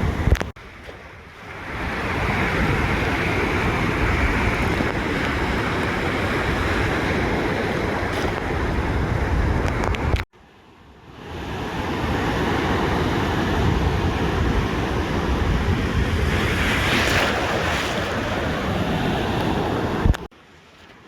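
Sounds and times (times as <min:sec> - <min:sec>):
ocean surf washing onto beach: 0:00.0 - 0:10.3, 0:11.0 - 0:20.3.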